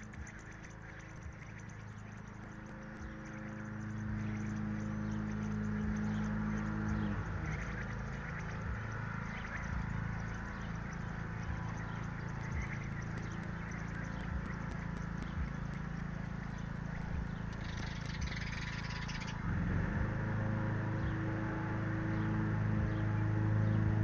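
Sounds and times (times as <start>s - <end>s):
nestlings chirping: 0.0s - 19.5s
steady low hum: 0.0s - 24.0s.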